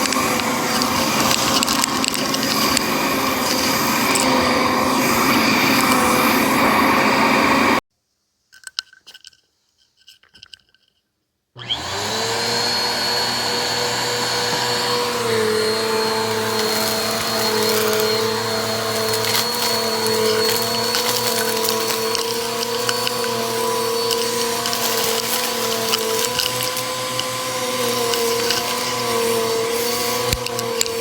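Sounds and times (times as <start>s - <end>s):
vacuum cleaner running: 0.0s - 7.8s, 11.6s - 31.0s.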